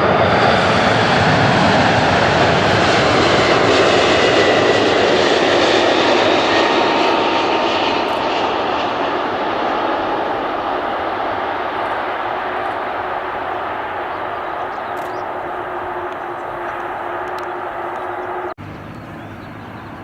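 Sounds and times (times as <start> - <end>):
airliner engines roaring: 0.0 - 20.0.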